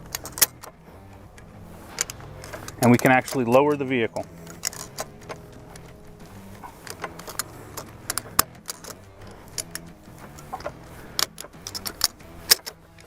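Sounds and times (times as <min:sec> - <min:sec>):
ratchet strap clicking: 0:00.0 - 0:13.0.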